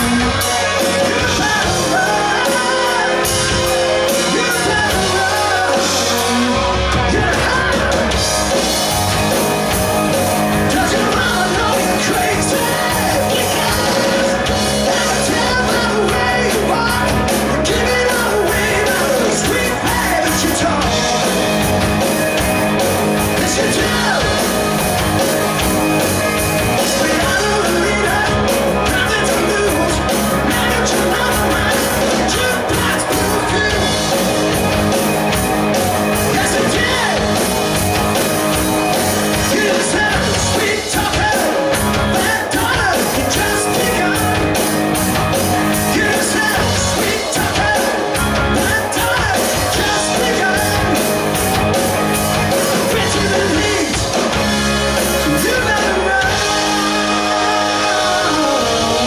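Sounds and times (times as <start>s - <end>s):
man singing: 0.0s - 8.6s, 10.5s - 21.7s, 23.2s - 24.8s, 25.6s - 34.5s, 36.2s - 37.4s, 39.2s - 44.8s, 45.7s - 51.3s, 52.5s - 54.2s, 55.2s - 59.0s
live rock band playing: 0.0s - 59.0s.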